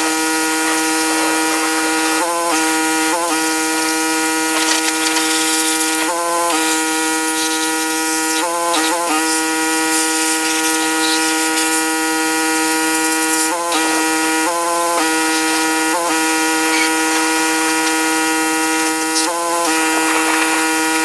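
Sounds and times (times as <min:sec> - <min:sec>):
pressure washer engine drone: 0:00.0 - 0:21.0.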